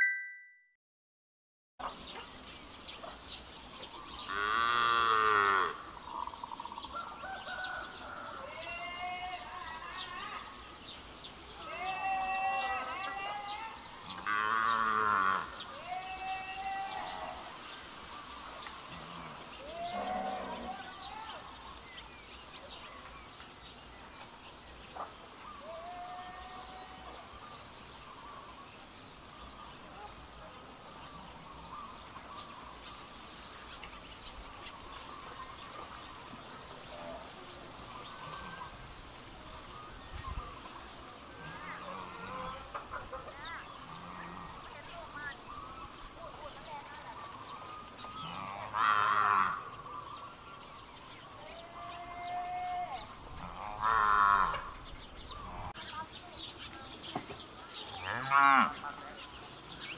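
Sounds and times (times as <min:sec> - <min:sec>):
small birds chirping: 0:01.8 - 0:59.9.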